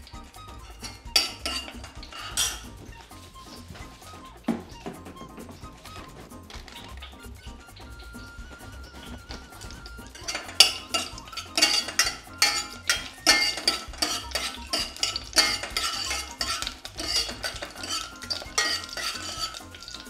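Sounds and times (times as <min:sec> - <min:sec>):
ladle scraping metal pot: 0:00.6 - 0:07.1, 0:08.6 - 0:20.0.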